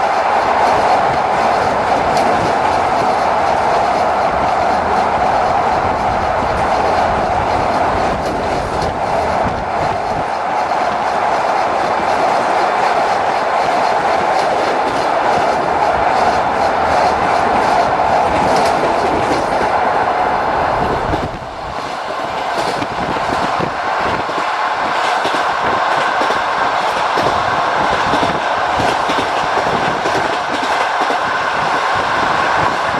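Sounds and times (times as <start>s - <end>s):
train wheels clattering on rails: 0.0s - 19.8s, 21.1s - 32.9s.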